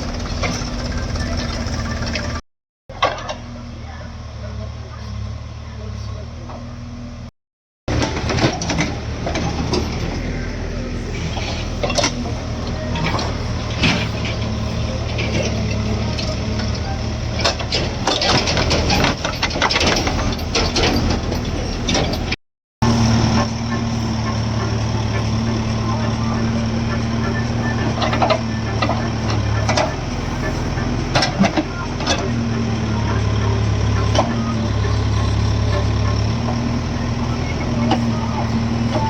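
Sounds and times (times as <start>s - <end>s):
backhoe diesel engine: 0.0s - 7.3s, 7.9s - 39.0s.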